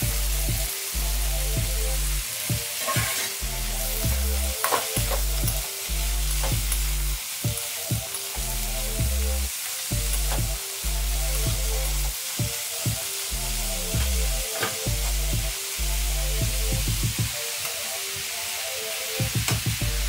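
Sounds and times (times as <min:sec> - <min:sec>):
music with deep bass line: 0:00.0 - 0:17.4, 0:19.2 - 0:20.0
vegetables sizzling in a wok: 0:00.0 - 0:20.0.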